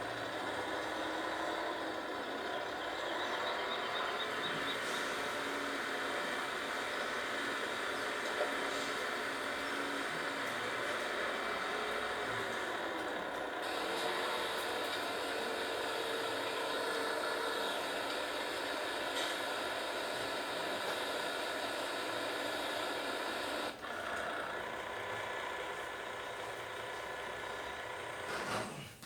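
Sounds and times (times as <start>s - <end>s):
faint steady tones: 0.0s - 28.3s
mechanical running noise: 0.0s - 29.0s.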